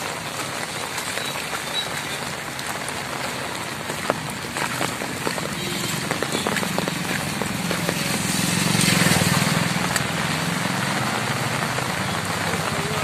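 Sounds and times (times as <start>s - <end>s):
heavy rain hiss: 0.0s - 13.0s.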